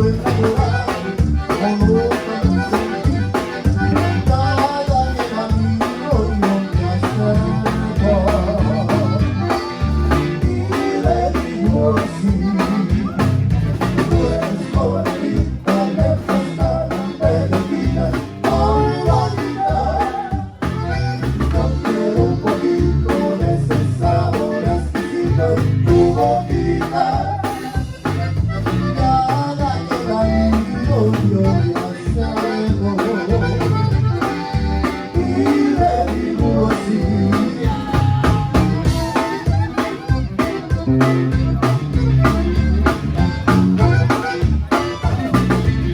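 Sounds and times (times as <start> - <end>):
accordion melody: 0.0 - 45.9
bass and drum beat: 0.0 - 45.9.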